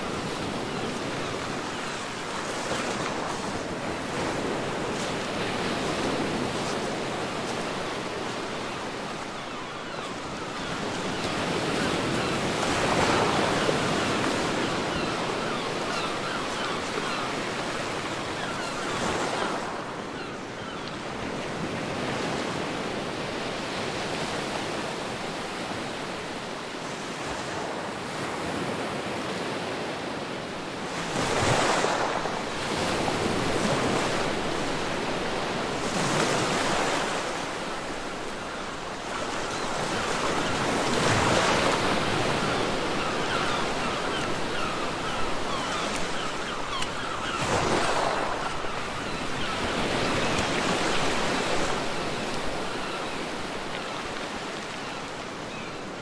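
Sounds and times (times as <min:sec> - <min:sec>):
big waves breaking: 0:00.0 - 0:56.0.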